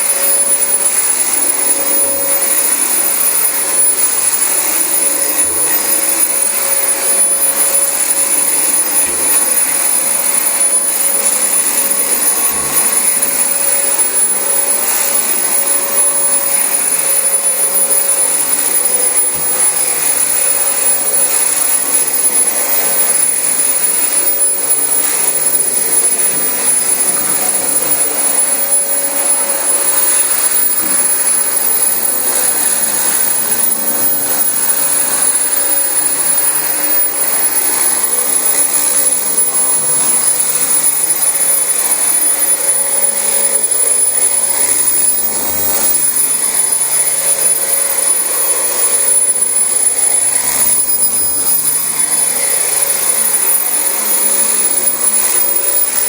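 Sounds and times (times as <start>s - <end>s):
vacuum cleaner running over carpet: 0.0s - 56.0s.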